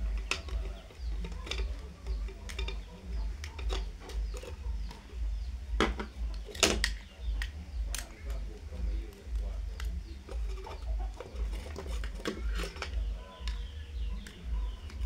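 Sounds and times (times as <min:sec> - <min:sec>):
low pulsing rumble: 0:00.0 - 0:15.0.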